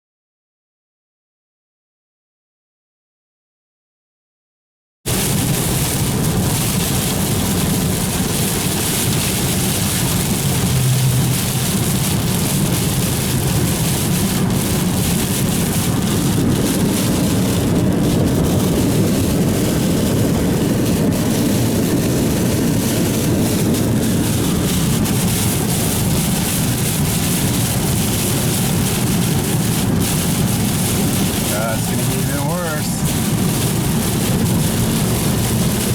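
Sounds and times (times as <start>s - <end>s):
heavy rain: 5.1s - 35.9s
vehicle running: 5.7s - 35.9s.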